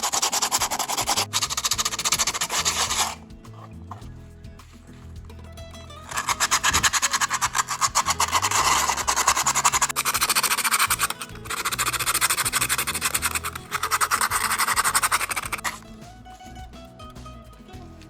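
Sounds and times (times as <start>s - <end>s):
hand filing rasping strokes: 0.0s - 4.0s, 6.0s - 16.6s
background music: 0.0s - 18.0s.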